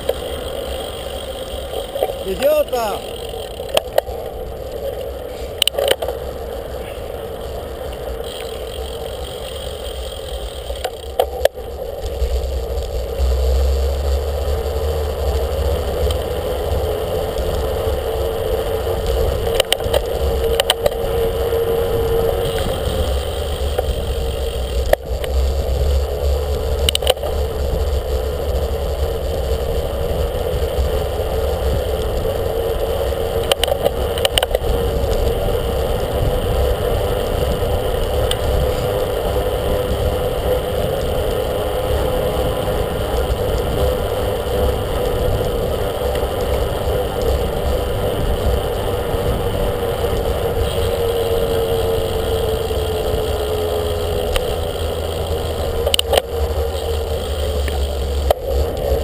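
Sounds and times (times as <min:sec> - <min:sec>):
bicycle rattling over paving: 0:00.0 - 0:59.0
wind rumbling on microphone: 0:00.0 - 0:59.0.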